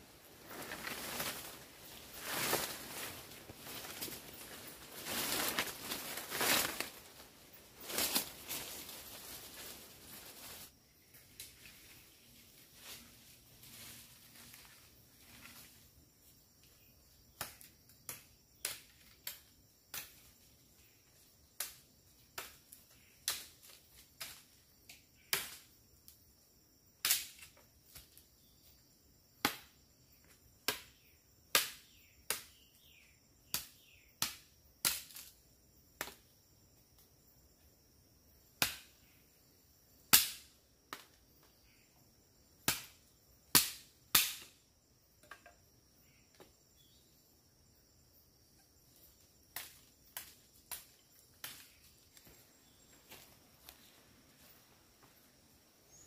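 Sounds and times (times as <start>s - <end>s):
high insect chirring: 0.0s - 56.0s.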